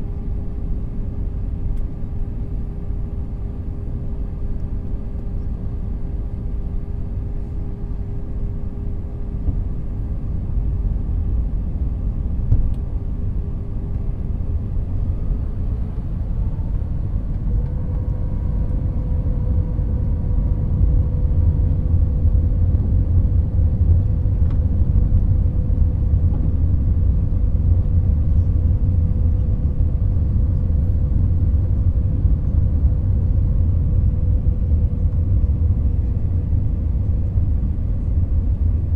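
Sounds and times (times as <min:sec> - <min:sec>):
jet engine hum: 0:00.0 - 0:38.9
low cabin rumble: 0:00.0 - 0:38.9.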